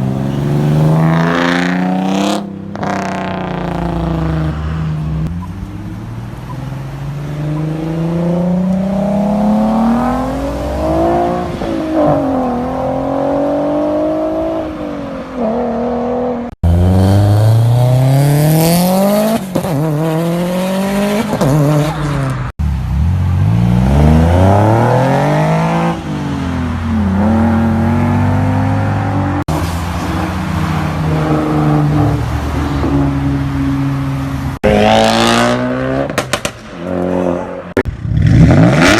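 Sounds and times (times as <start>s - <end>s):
car engines accelerating hard: 0.0s - 38.9s.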